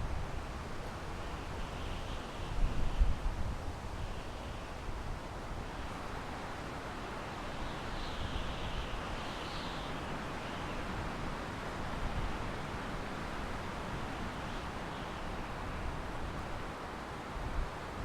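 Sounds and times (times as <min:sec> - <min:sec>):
wind blowing through pine trees: 0:00.0 - 0:18.0.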